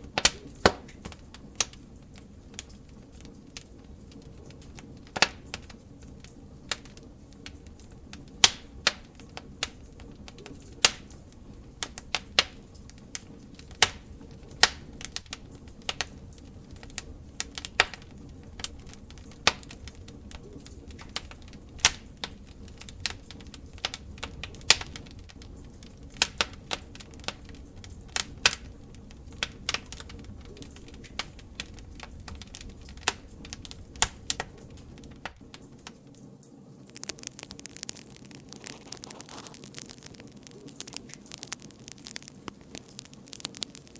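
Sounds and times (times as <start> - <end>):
open fire crackling: 0.0 - 43.9.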